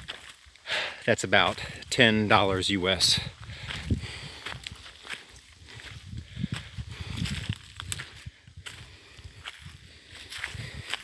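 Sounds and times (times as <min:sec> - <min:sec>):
dry grass rustling underfoot: 0:00.0 - 0:11.0
footsteps on dirt path: 0:00.0 - 0:11.0.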